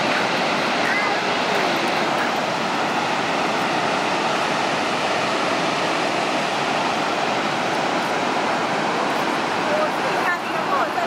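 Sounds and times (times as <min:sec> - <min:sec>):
churning water: 0:00.0 - 0:11.0
waterfall rushing: 0:00.0 - 0:11.0.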